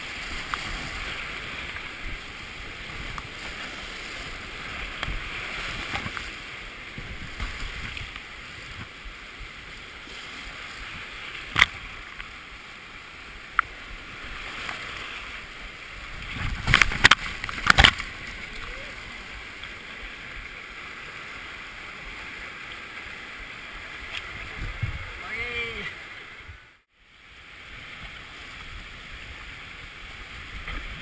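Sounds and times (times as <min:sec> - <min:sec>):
rushing whitewater: 0:00.0 - 0:31.0.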